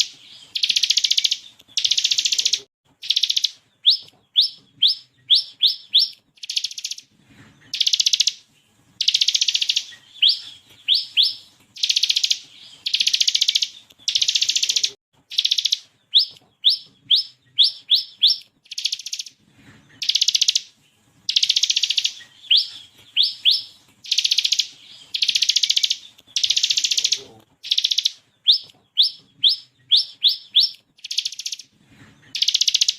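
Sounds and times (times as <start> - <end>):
prinia singing whistles and trills: 0.0 - 32.9.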